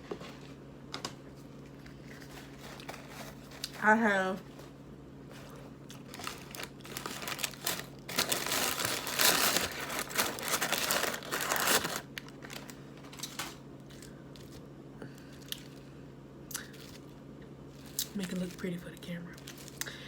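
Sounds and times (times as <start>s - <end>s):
food packaging crinkling: 1.6s - 15.9s, 16.5s - 20.0s.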